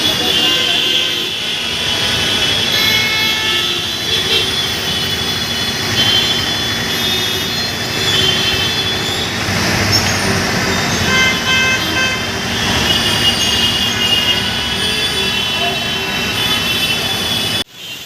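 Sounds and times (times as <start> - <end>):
rumble of vehicles: 0.0 - 18.0.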